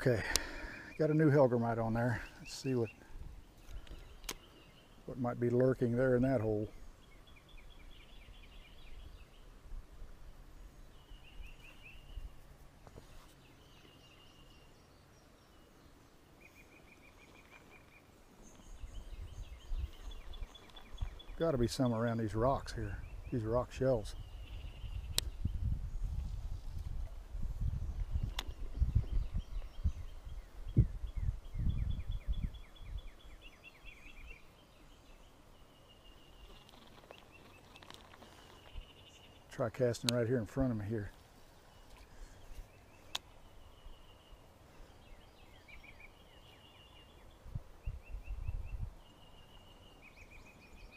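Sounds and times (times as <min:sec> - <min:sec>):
small bird singing: 0:00.0 - 0:09.6, 0:10.5 - 0:50.9.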